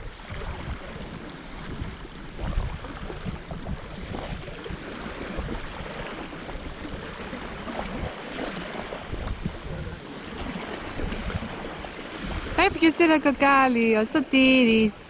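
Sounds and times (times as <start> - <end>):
water lapping and splashing: 0.0 - 15.0
wind rumbling on microphone: 0.0 - 15.0.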